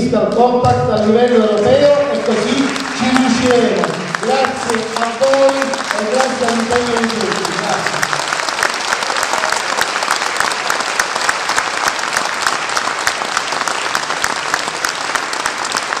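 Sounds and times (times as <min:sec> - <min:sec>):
audience applauding: 0:01.0 - 0:16.0.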